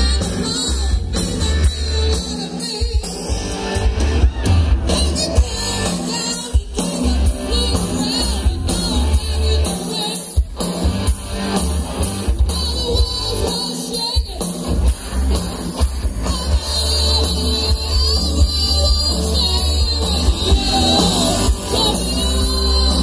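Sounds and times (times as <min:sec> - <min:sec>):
person singing: 0:00.0 - 0:10.9, 0:11.5 - 0:14.7, 0:15.7 - 0:23.0
bass: 0:00.0 - 0:23.0
drums: 0:00.0 - 0:23.0
electric guitars: 0:00.0 - 0:23.0.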